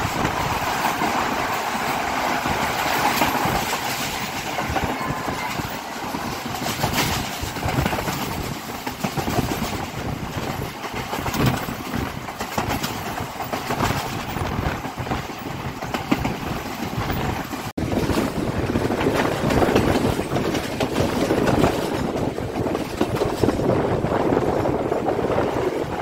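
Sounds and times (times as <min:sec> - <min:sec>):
train rattling rumble: 0:00.0 - 0:26.0
wheels clicking on track: 0:00.0 - 0:26.0.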